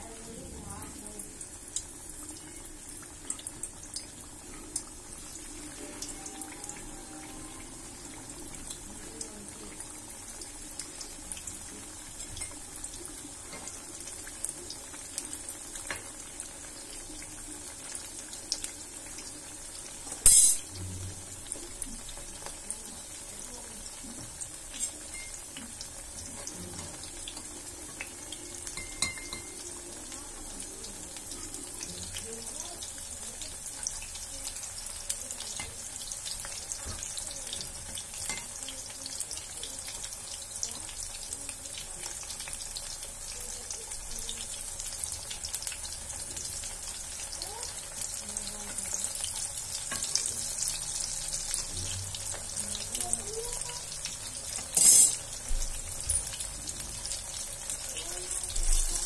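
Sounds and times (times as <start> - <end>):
oil sizzling and crackling: 0.0 - 59.0.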